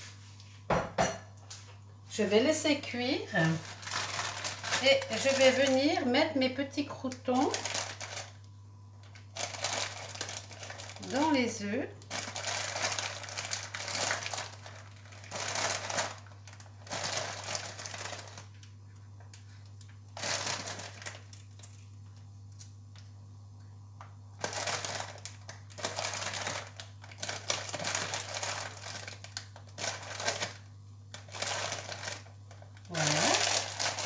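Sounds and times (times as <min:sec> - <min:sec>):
plastic bag crinkling: 0:03.3 - 0:22.7, 0:24.4 - 0:34.0.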